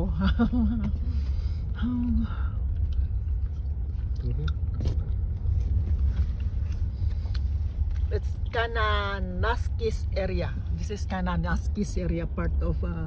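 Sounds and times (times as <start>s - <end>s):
road vehicle rumble: 0.0s - 13.0s.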